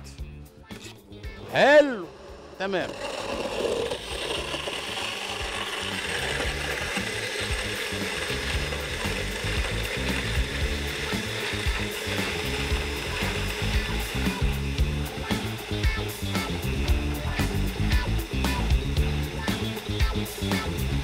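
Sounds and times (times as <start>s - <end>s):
low knocking in blender: 1.2s - 21.0s
blender whirring: 1.4s - 21.0s.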